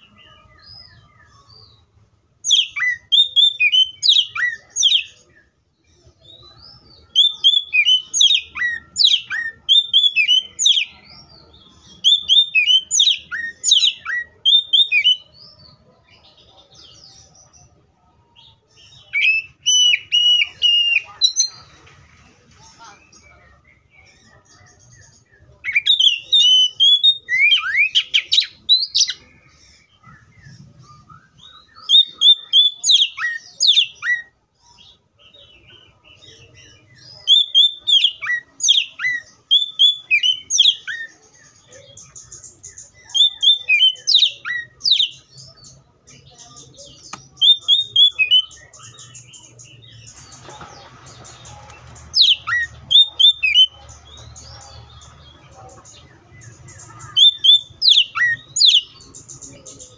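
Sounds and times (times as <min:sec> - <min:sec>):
bird singing whistled notes: 0:00.0 - 0:17.4, 0:18.4 - 0:21.6, 0:23.1 - 0:50.4, 0:51.2 - 0:59.9.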